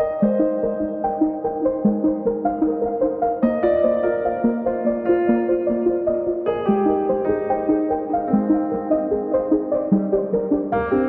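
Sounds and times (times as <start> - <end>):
keyboard playing sustained notes: 0.0 - 11.0.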